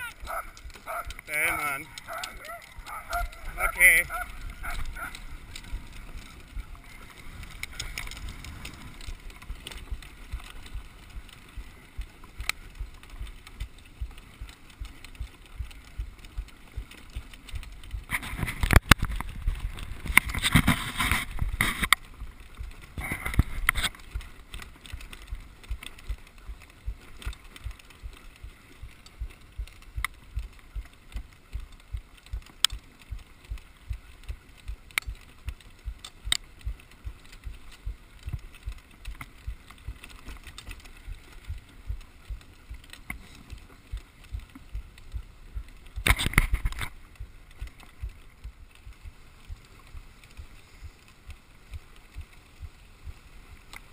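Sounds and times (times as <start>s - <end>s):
sled rattling: 0.0s - 53.9s.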